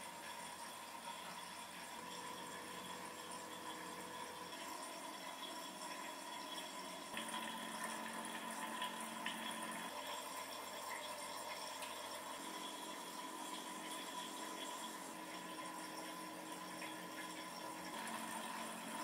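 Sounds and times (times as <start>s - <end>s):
faint pump hum: 0.0s - 19.0s
water trickling from filter: 0.0s - 19.0s.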